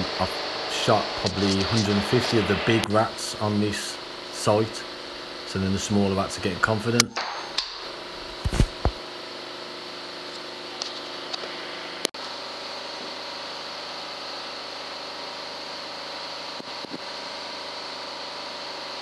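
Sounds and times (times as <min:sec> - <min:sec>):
machinery hum: 0:00.0 - 0:19.0.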